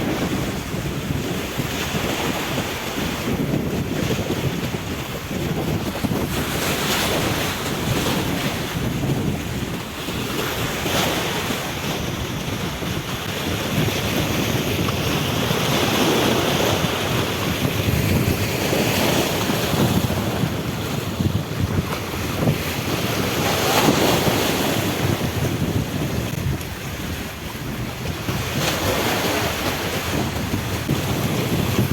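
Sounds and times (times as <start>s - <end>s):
sea waves washing: 0.0s - 31.9s
wind buffeting microphone: 0.0s - 31.9s.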